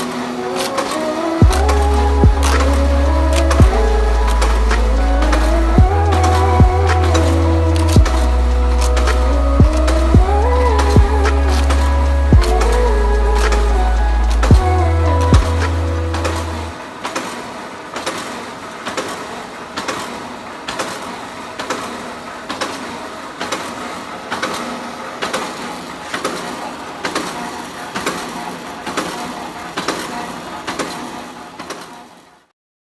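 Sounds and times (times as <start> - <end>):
machine humming: 0.0 - 32.2.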